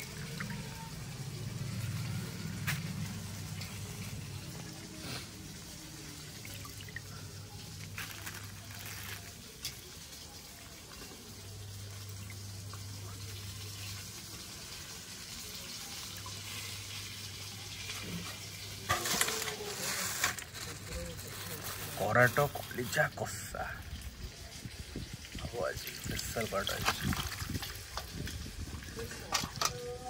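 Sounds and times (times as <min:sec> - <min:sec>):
water splashing in steel bowl: 0:00.0 - 0:19.8, 0:23.9 - 0:30.0.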